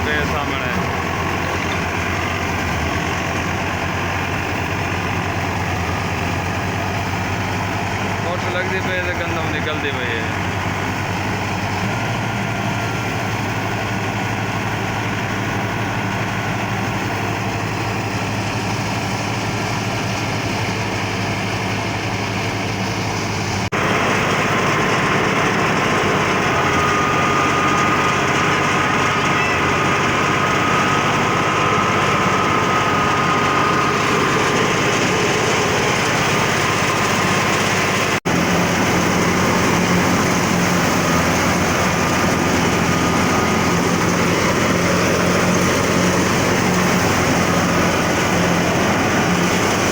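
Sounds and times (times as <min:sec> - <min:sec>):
tractor engine: 0:00.0 - 0:49.9
wheat thresher running: 0:00.0 - 0:49.9.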